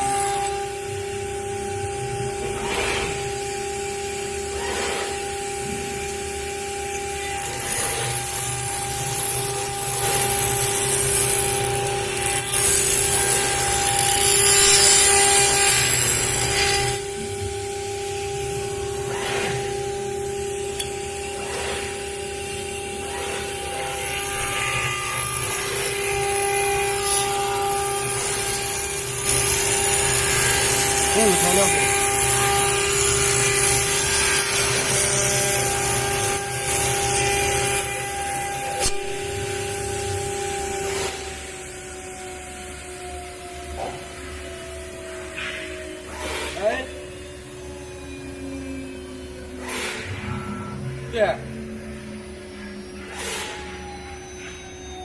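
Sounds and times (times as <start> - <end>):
router spindle whine: 0.0 - 55.0.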